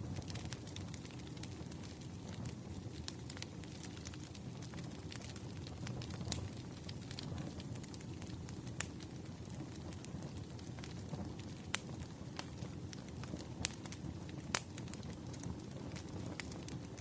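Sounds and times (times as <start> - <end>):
campfire crackling: 0.0 - 17.0
wood popping in fire: 0.0 - 17.0.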